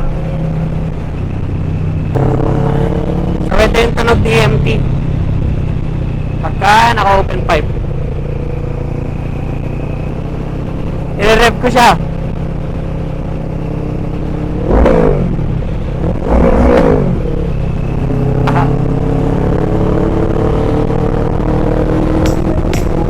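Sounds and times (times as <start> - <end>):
motorcycle engine accelerating: 0.0 - 23.0
motorcycle engine revving: 0.0 - 23.0.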